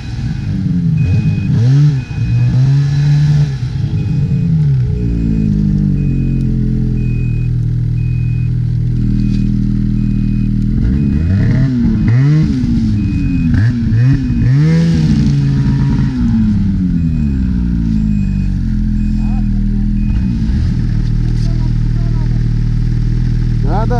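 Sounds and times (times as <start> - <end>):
snowmobile engine revving: 0.0 - 23.9.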